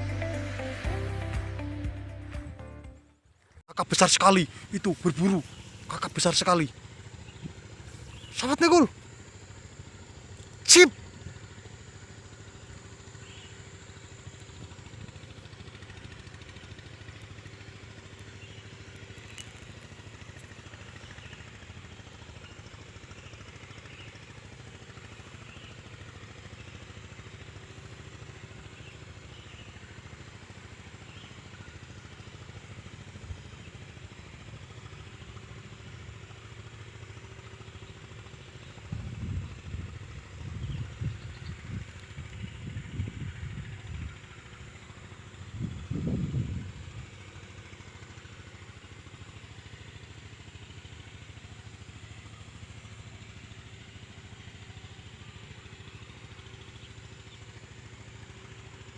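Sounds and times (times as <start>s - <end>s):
low outdoor rumble: 3.2s - 58.9s.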